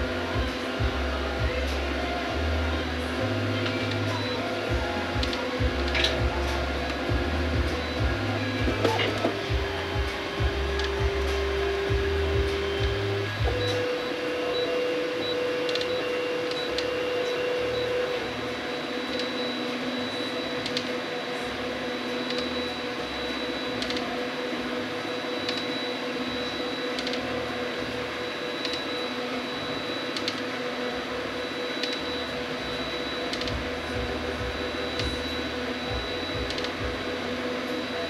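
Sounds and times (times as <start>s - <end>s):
stepper motors whining: 0.0s - 38.0s.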